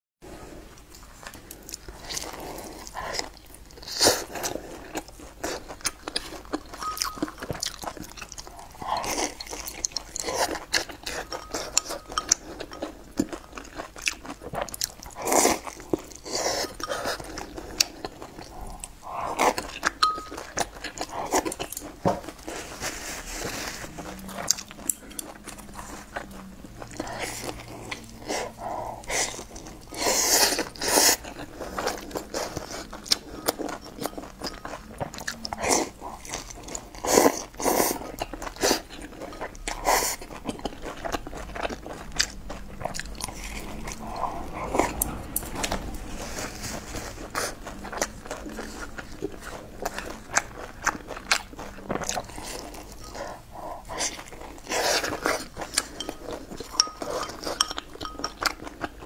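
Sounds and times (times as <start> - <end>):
person chewing food: 0.3 - 59.0
small crunches and mouth sounds: 0.8 - 59.0.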